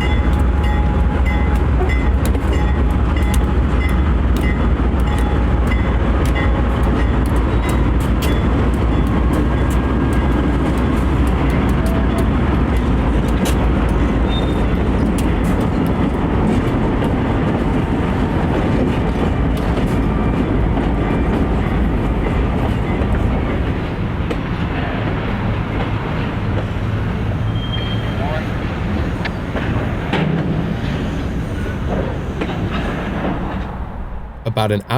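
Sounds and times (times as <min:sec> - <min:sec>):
diesel locomotive engines rumbling: 0:00.0 - 0:34.9.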